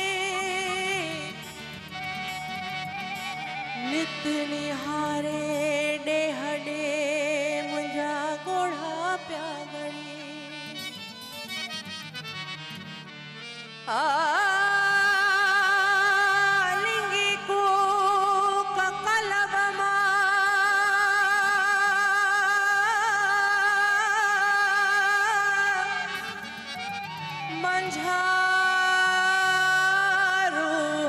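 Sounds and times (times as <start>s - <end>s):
woman singing with vibrato: 0.0s - 10.8s, 13.9s - 31.0s.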